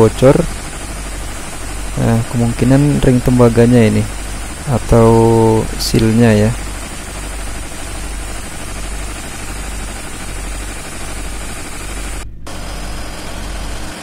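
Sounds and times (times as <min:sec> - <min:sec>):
diesel generator running: 0:00.0 - 0:14.0
loud hiss: 0:00.0 - 0:14.0.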